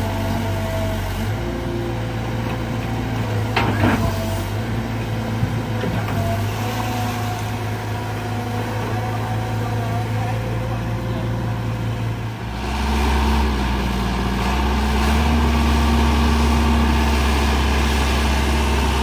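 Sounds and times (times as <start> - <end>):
excavator engine humming: 0.0 - 19.0.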